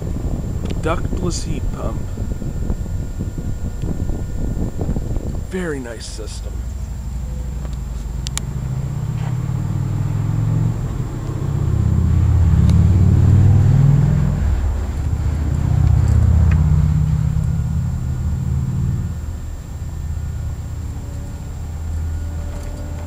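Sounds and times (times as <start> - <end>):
motor vehicle engine rumble: 0.0 - 23.0.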